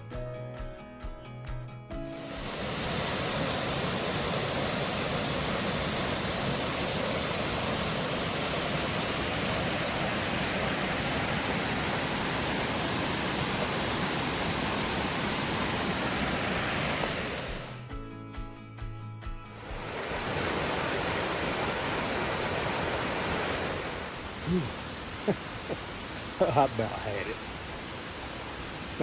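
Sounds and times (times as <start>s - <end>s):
water rushing over waterfall: 2.2s - 17.8s, 19.6s - 29.0s.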